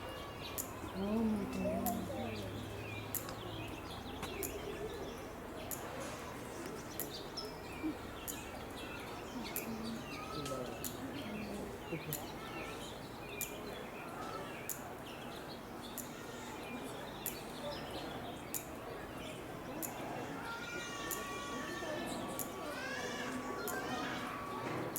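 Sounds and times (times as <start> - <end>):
small birds chirping: 0.0 - 24.9
indistinct background voices: 0.6 - 24.9.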